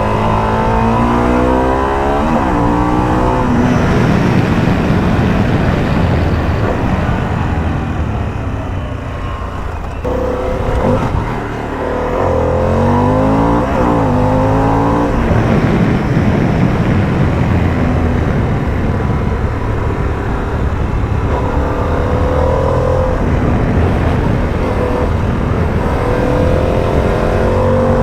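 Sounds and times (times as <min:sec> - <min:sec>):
motorcycle engine running: 0:00.0 - 0:28.0
steady rushing noise: 0:00.0 - 0:28.0.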